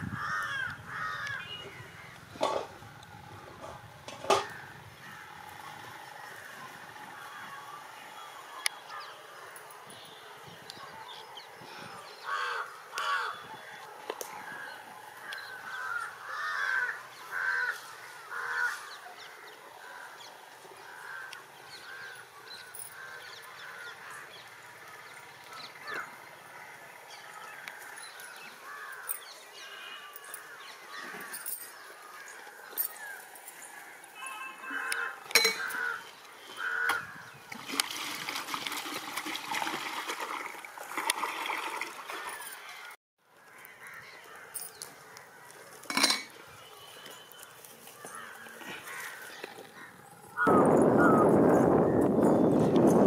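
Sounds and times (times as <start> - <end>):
faint outdoor background noise: 0.0 - 53.0.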